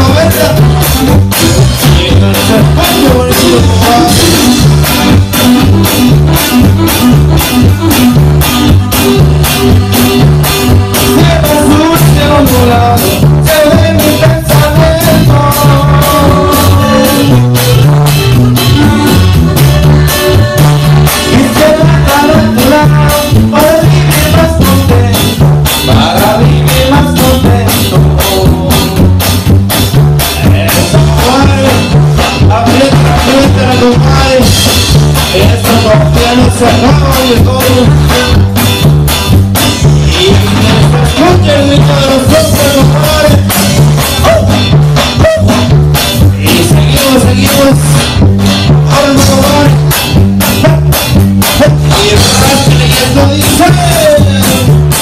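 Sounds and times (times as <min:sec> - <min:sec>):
person singing into microphone: 0:00.0 - 0:04.8, 0:10.9 - 0:17.8, 0:18.8 - 0:29.2, 0:30.3 - 0:38.6, 0:39.9 - 0:55.0
live latin dance band: 0:00.0 - 0:55.0.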